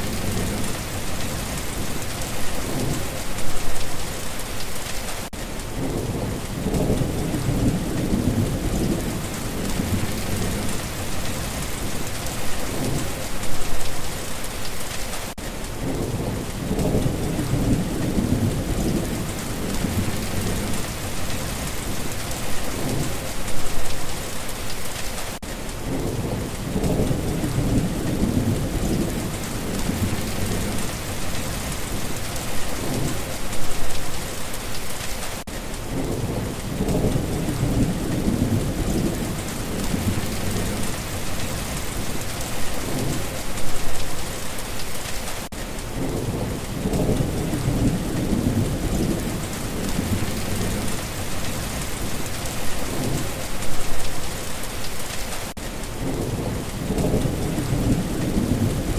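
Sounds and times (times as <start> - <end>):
thunder rumbling: 0.0 - 3.8, 5.7 - 14.1, 15.8 - 24.4, 25.8 - 34.0, 35.9 - 44.1, 45.8 - 54.3, 56.0 - 58.9
steady rain falling: 0.0 - 58.9.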